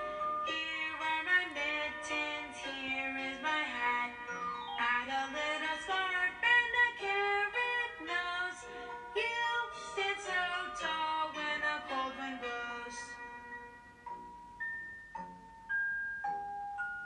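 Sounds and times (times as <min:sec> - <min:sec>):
song with singing voice: 0:00.0 - 0:14.0.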